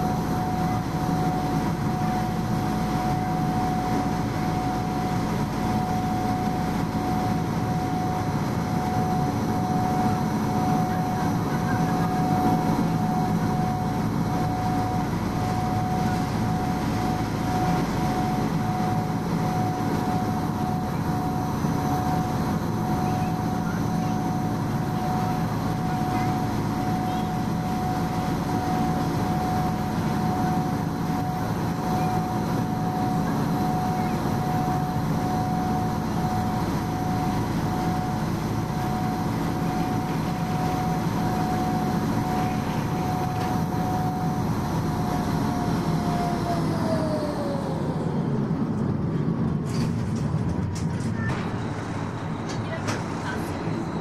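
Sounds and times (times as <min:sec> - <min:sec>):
ferry diesel engines droning: 0:00.0 - 0:54.0.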